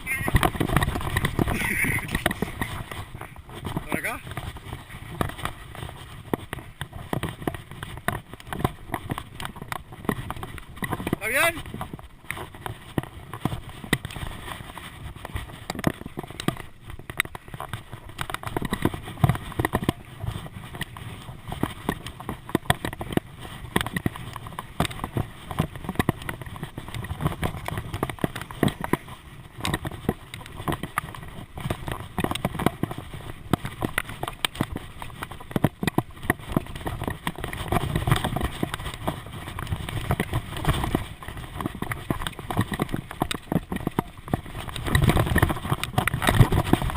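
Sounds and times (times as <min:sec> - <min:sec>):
bike and mount rattling: 0:00.0 - 0:46.9.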